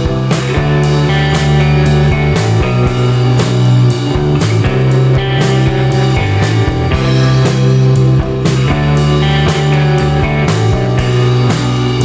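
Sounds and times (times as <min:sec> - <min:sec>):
rock guitar chords: 0:00.0 - 0:12.0
steady drum beat: 0:00.0 - 0:12.0.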